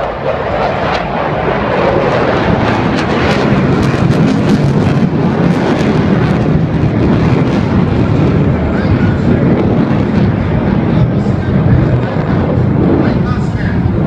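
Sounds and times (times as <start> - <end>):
fighter jets flying past: 0.0 - 14.0.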